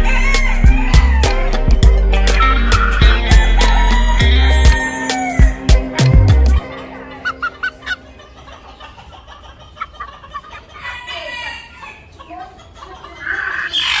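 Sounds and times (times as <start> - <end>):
rooster clucking: 0.0 - 14.0.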